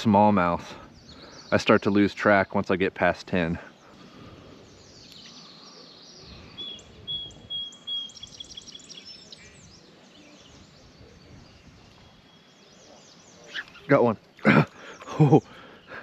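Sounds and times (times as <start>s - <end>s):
birds singing: 0.0s - 16.0s
outdoor background hiss: 0.0s - 16.0s.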